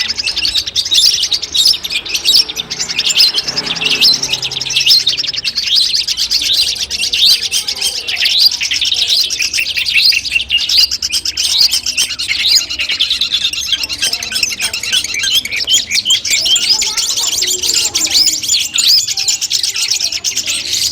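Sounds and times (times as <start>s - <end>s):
bird singing rapid high notes: 0.0s - 20.9s.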